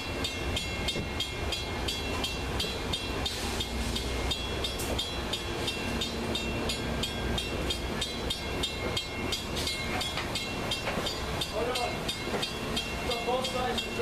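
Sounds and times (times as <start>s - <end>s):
crossing bell ringing rapidly: 0.0s - 14.0s
train cars rumbling past: 0.0s - 14.0s.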